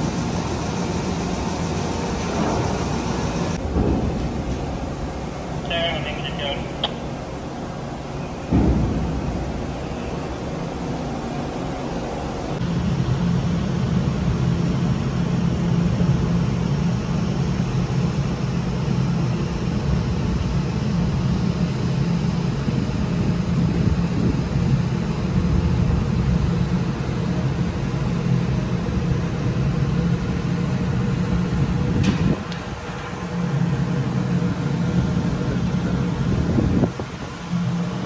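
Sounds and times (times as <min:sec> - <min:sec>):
ship machinery humming: 0:00.0 - 0:38.0.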